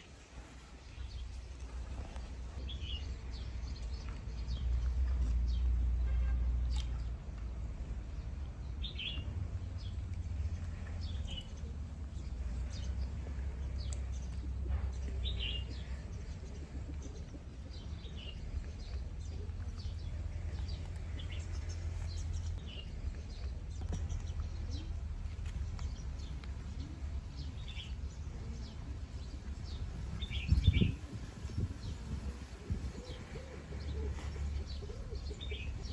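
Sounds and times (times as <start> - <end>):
steady low rumble: 0.0 - 35.9.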